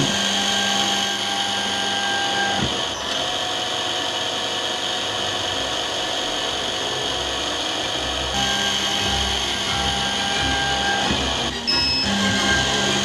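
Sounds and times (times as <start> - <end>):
spindle motor high whine: 0.0 - 13.0.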